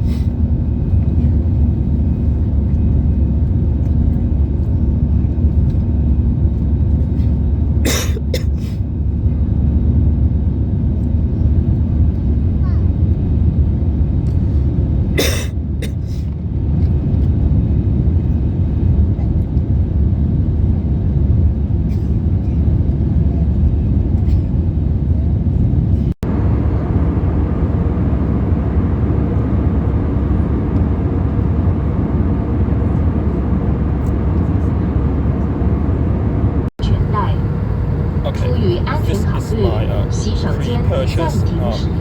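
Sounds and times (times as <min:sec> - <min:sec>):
airplane cabin roar: 0:00.0 - 0:42.0.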